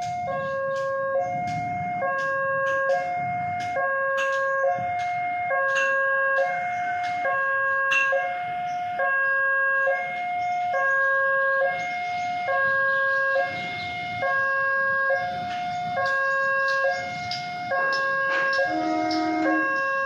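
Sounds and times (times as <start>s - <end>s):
two-note crossing alarm: 0.0s - 20.0s.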